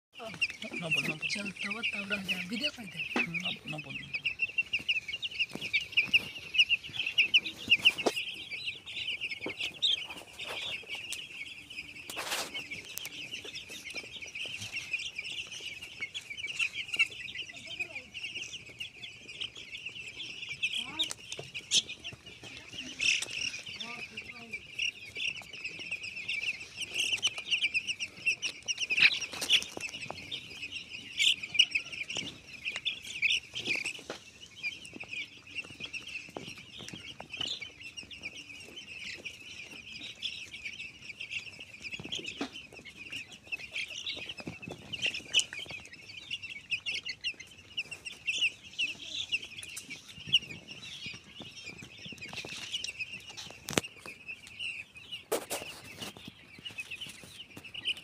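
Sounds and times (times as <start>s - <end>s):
chicks peeping: 0.2s - 58.0s.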